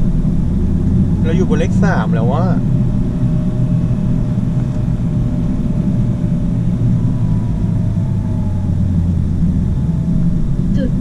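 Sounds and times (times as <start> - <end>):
car engine and road rumble: 0.0 - 11.0
deep hum: 0.0 - 11.0
faint engine tone falling: 0.0 - 11.0.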